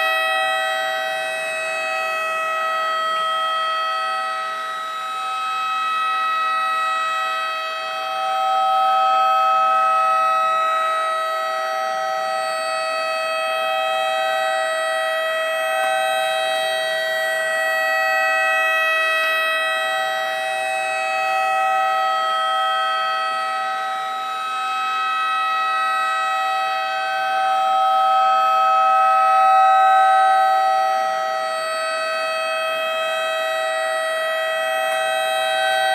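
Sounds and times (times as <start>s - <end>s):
electronic siren steady tone: 0.0s - 35.9s.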